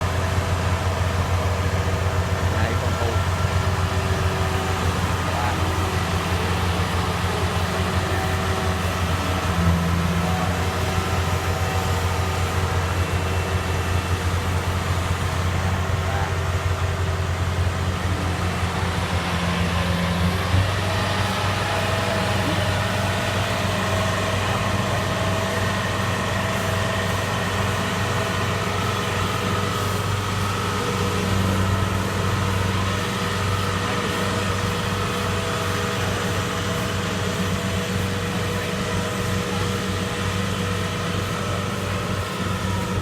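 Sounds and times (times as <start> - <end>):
combine harvester engine drone: 0.0 - 43.0
machinery whine: 0.0 - 43.0.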